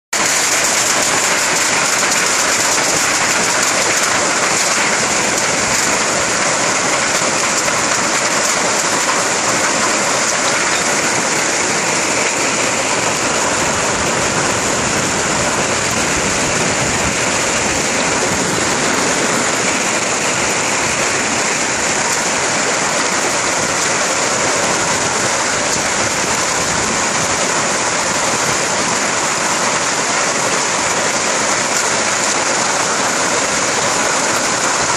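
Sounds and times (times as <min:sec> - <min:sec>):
hailstones pelting pavement: 0:00.2 - 0:34.9
heavy rain hissing: 0:00.2 - 0:34.9.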